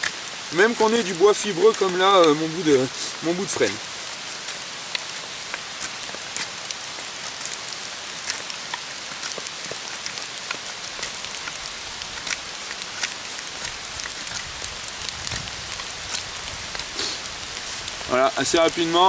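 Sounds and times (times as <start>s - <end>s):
knife blade shaving wood: 0.0s - 18.0s
rain pattering on leaves: 0.0s - 19.0s.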